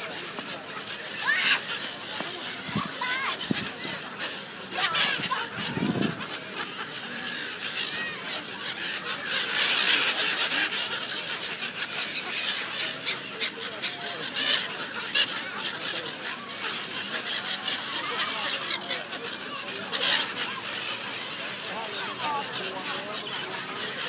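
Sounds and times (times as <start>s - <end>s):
crowd chatter: 0.0s - 24.0s
gulls calling: 0.0s - 24.0s.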